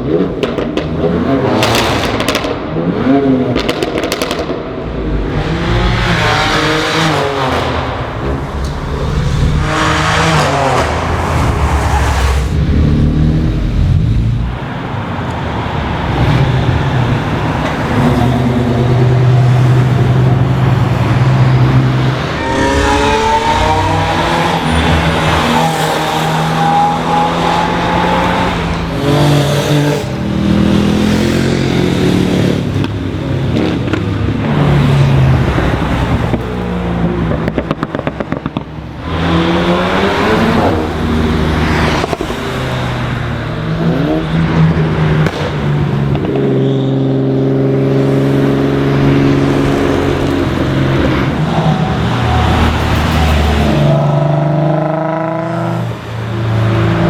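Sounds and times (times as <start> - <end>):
cars passing at speed: 0.0 - 57.0.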